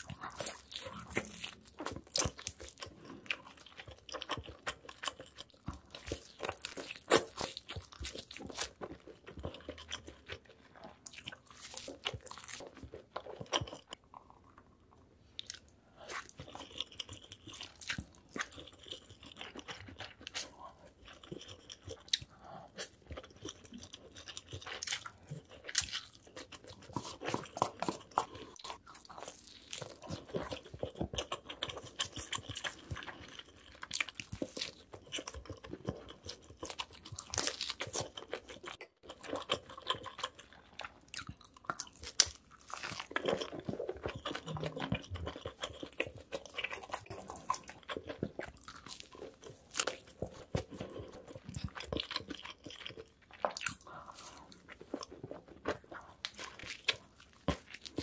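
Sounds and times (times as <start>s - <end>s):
biting and crunching food: 0.0s - 58.0s
wet chewing: 0.0s - 58.0s.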